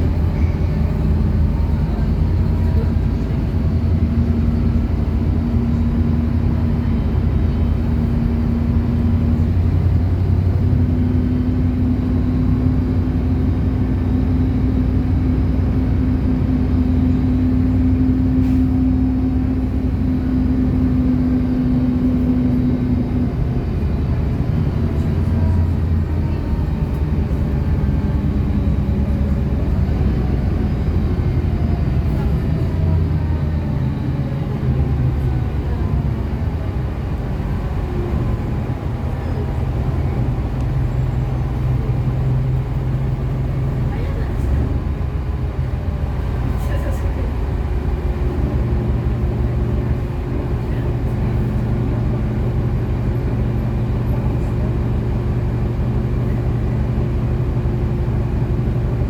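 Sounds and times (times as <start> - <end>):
bus engine hum: 0.0 - 59.0.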